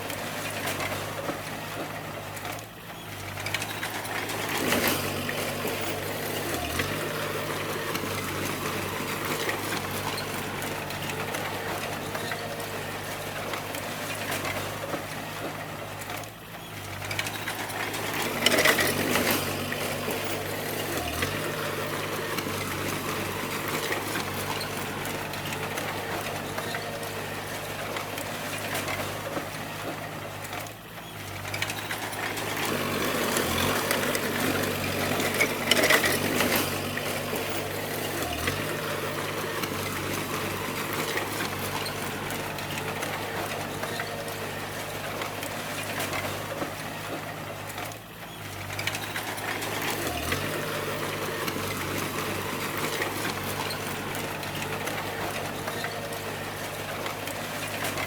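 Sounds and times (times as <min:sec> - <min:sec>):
bulldozer diesel engine running: 0:00.0 - 0:58.0
mechanical clatter: 0:03.4 - 0:58.0.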